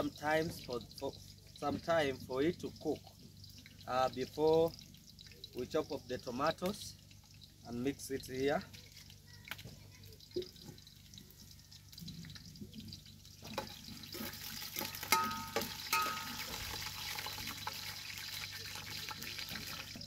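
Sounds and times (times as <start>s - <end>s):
onions sizzling in a pan: 0.0s - 20.0s.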